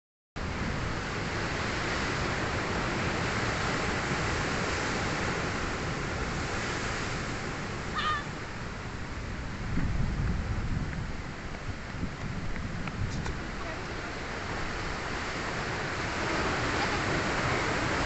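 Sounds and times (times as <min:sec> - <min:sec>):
sea waves washing on shore: 0:00.4 - 0:18.0
wind buffeting microphone: 0:00.4 - 0:18.0.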